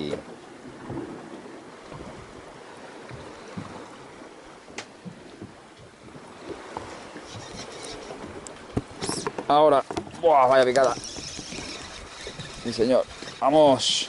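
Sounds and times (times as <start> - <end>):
water lapping around boat: 0.0 - 14.0
wind on microphone: 0.0 - 14.0.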